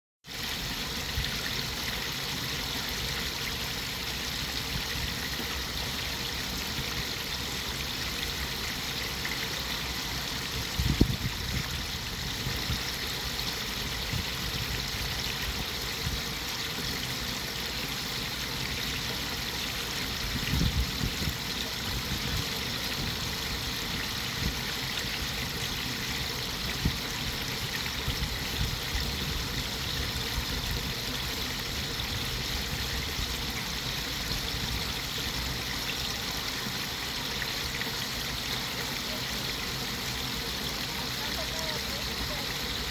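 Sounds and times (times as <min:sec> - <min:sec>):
flowing water rushing: 0:00.2 - 0:42.9.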